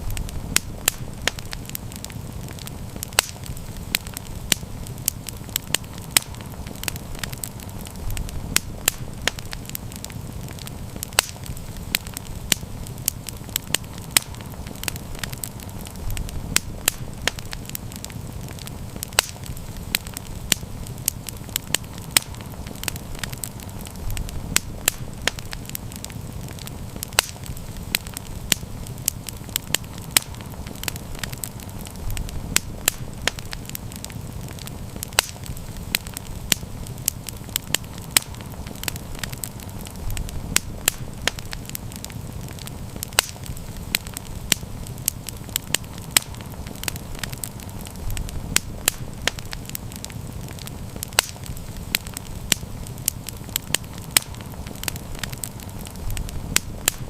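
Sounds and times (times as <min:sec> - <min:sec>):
campfire crackling and popping: 0:00.0 - 0:57.0
low rumble of flame: 0:00.0 - 0:57.0.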